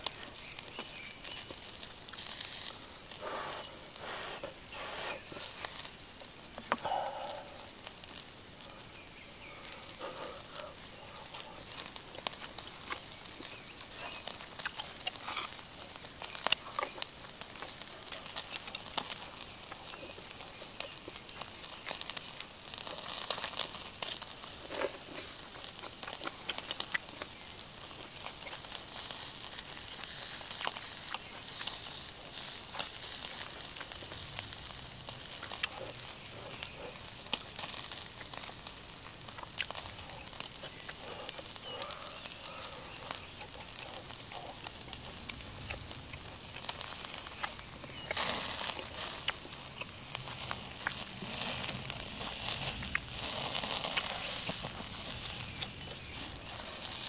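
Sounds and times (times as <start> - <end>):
beef sizzling on a grill: 0.0 - 57.0.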